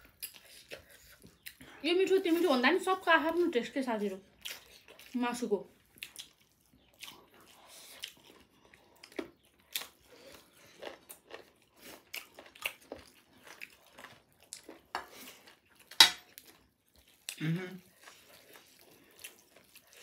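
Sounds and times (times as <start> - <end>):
wet chewing and mouth smacks: 0.0 - 2.6, 4.0 - 20.0.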